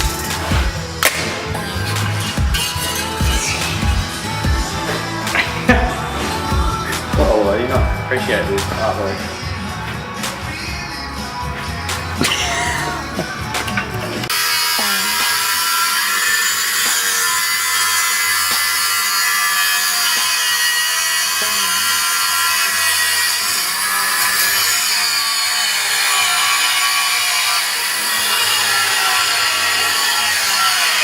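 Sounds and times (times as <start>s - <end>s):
power tool cutting steel pipe: 0.0s - 31.0s.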